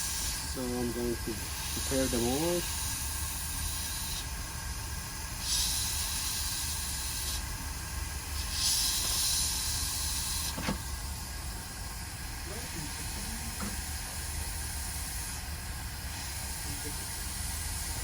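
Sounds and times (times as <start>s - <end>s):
hot-air station hissing: 0.0s - 18.0s.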